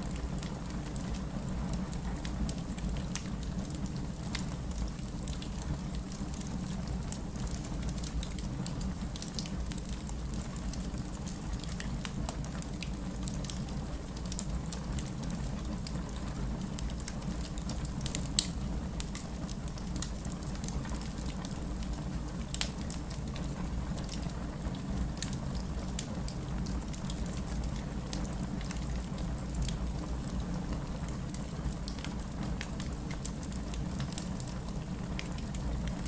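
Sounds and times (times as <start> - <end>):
low rumble of flames: 0.0 - 36.0
wood fire crackling and popping: 0.0 - 36.0.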